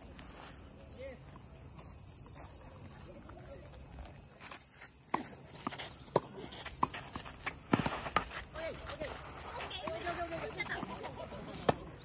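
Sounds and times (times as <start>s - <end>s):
high drone of insects: 0.0s - 12.0s.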